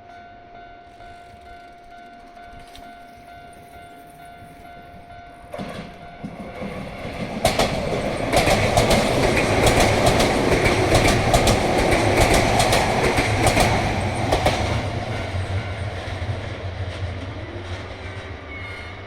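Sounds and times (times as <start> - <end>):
train running noise: 0.0 - 19.0
wheels clicking over rail joints: 0.9 - 18.0.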